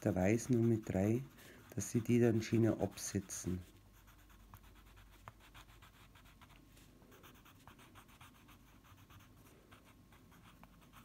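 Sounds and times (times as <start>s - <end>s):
pencil scratching on wood: 0.0s - 6.6s, 7.2s - 11.0s.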